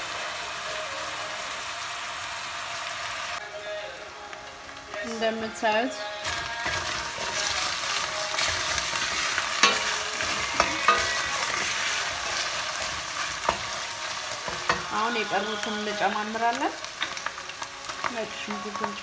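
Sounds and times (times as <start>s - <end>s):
meat and onions sizzling: 0.0s - 19.0s.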